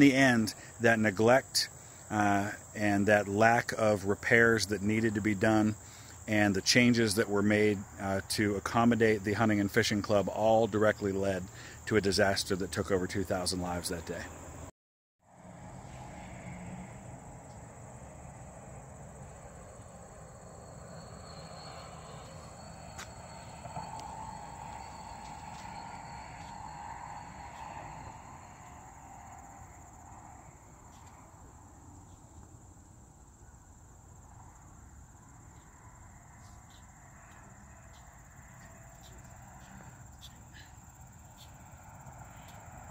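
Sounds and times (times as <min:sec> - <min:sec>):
high-pitched insect chorus: 0:00.0 - 0:14.7, 0:15.4 - 0:42.9.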